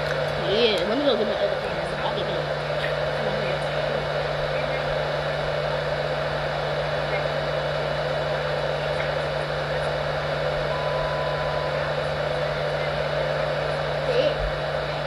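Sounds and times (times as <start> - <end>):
air blower motor whirring: 0.0 - 15.0
low hum: 0.0 - 15.0.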